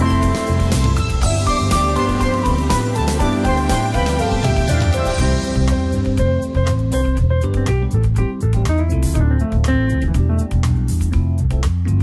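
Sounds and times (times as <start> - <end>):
plucked guitar with bass music: 0.0 - 12.0.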